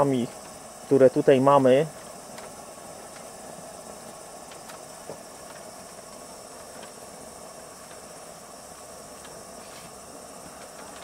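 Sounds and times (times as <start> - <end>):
crickets chirping: 0.0 - 11.0
pressure lantern hissing: 0.0 - 11.0.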